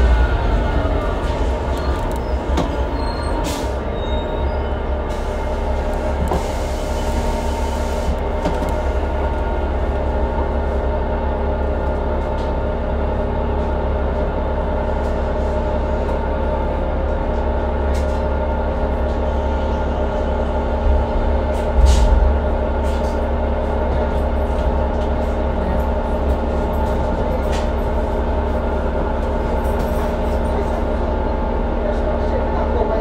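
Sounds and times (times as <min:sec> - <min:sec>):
bus engine idling: 0:00.0 - 0:33.0.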